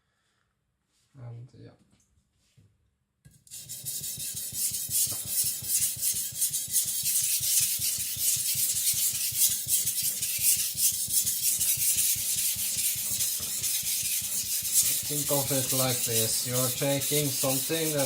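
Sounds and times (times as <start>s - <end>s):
blade scraping on whetstone: 3.5s - 18.0s.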